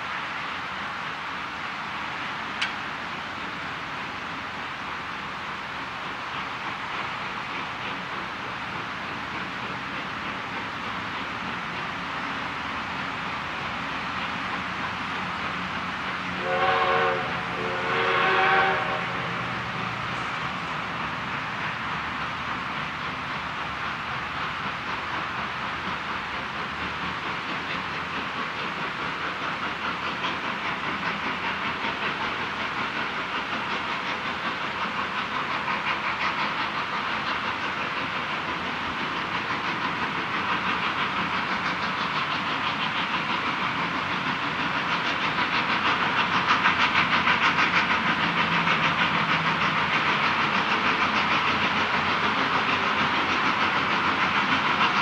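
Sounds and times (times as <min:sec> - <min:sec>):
steam hissing: 0:00.0 - 0:55.0
steam locomotive chuffing: 0:00.0 - 0:55.0.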